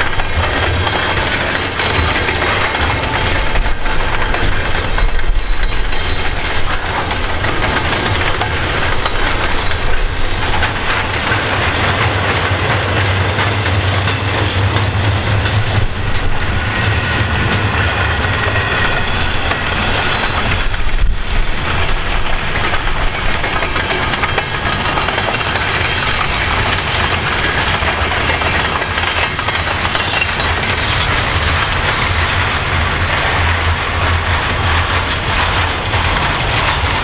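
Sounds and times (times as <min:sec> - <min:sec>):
steel wheels running on rails: 0:00.0 - 0:37.0.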